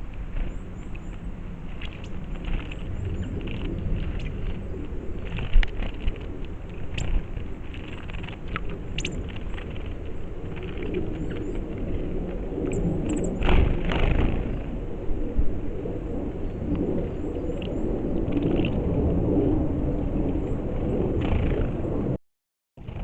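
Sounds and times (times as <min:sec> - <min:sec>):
steady low rumble: 0:00.0 - 0:22.2.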